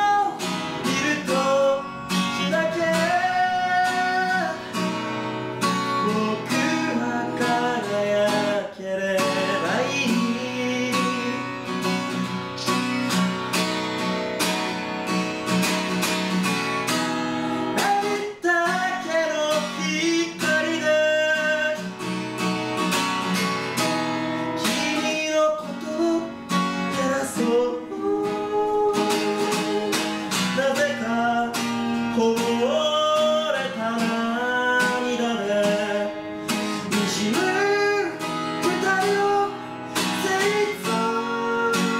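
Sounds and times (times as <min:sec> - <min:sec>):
man singing: 0:00.0 - 0:13.4, 0:17.5 - 0:22.9, 0:23.8 - 0:41.9
acoustic guitar strumming chords: 0:00.0 - 0:41.9.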